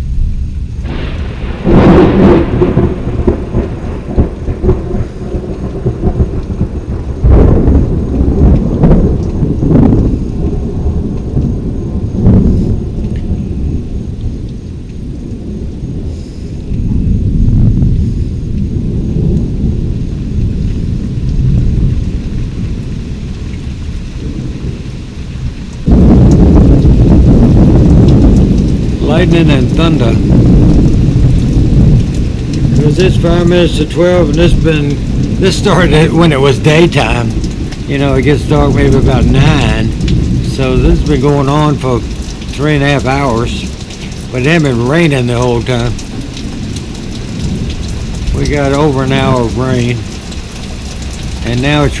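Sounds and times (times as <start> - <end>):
steady rain: 0.0 - 52.0
thunder rumbling: 0.0 - 52.0
loud thunder crash: 0.8 - 23.3, 24.2 - 49.6.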